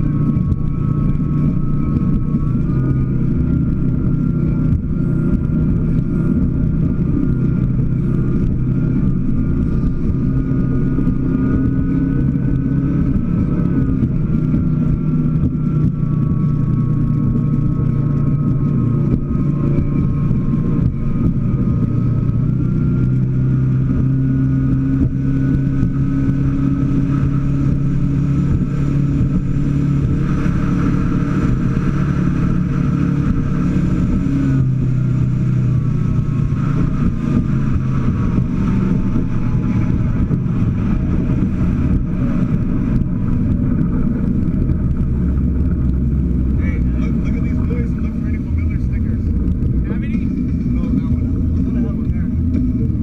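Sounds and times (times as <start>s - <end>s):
speedboat engine running: 0.0s - 53.0s
rush of wind and water: 7.6s - 53.0s.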